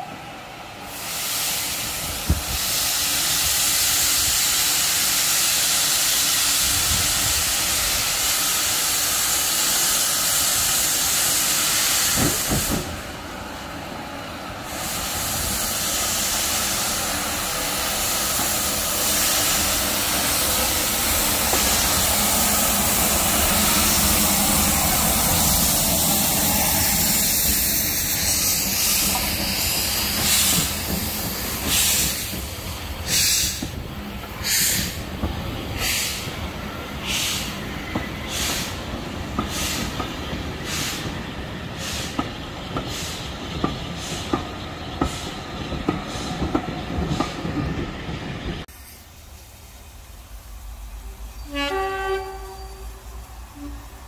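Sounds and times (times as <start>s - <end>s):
steam locomotives hissing: 0.0s - 54.0s.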